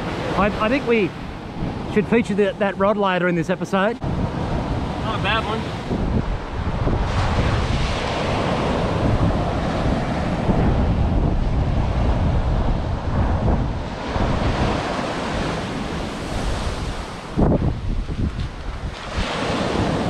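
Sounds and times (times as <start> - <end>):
wind buffeting microphone: 0.0 - 2.9, 4.0 - 20.0
ocean surf breaking: 0.0 - 20.0.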